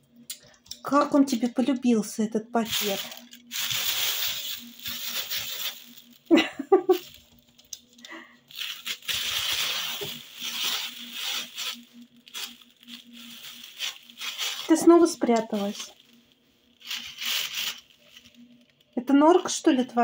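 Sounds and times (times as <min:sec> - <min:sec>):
plastic bag rustling: 0:02.6 - 0:07.8, 0:08.4 - 0:19.5.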